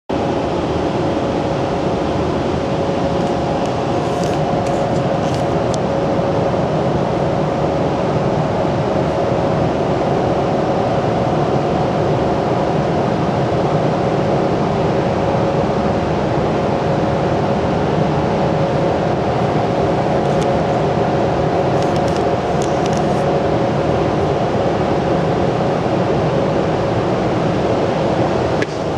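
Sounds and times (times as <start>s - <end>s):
machine running steadily: 0.1s - 28.9s.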